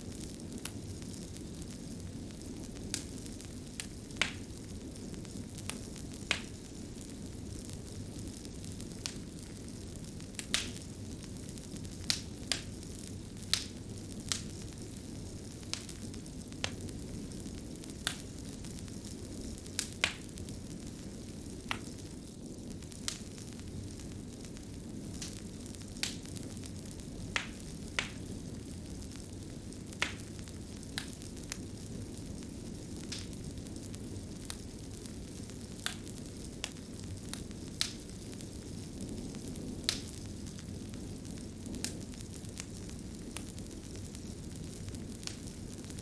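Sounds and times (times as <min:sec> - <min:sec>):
fire burning rush: 0:00.0 - 0:46.0
fire pops and snaps: 0:00.0 - 0:46.0.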